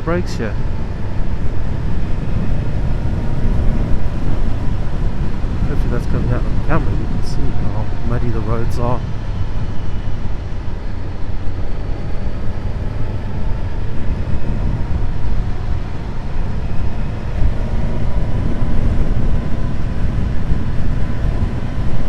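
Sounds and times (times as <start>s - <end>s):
motorcycle engine droning: 0.0s - 22.0s
wind rush: 0.0s - 22.0s.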